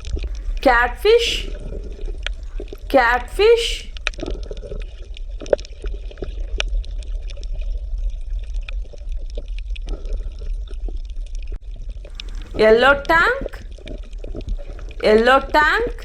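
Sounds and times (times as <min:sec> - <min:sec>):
water gurgling and trickling: 0:00.0 - 0:16.0.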